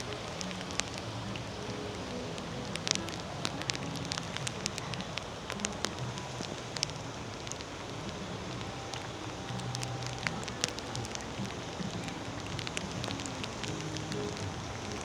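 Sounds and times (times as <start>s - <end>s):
raindrops ticking: 0.0s - 15.0s
steady rain: 0.0s - 15.0s.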